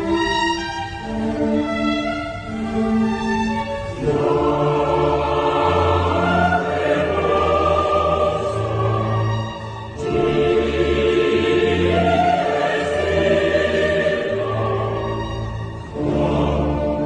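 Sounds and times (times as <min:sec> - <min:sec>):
choir singing sustained chords: 0:00.0 - 0:17.0
low orchestral notes: 0:00.0 - 0:17.0.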